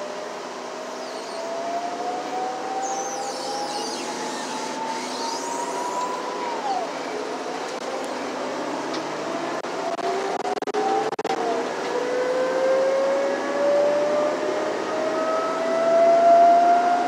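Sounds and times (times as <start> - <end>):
bus drivetrain whine: 0.0 - 17.0
bus engine and road noise: 0.0 - 17.0.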